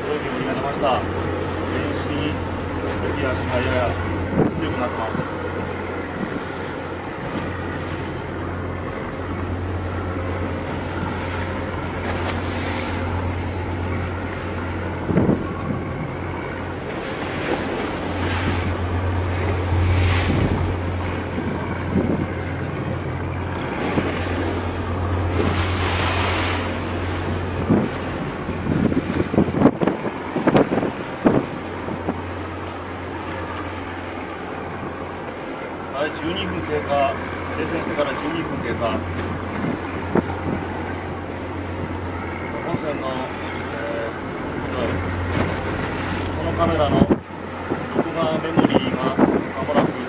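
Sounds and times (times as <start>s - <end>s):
boat engine humming: 0.0s - 50.0s
waves washing: 0.0s - 50.0s
wind buffeting microphone: 0.0s - 50.0s.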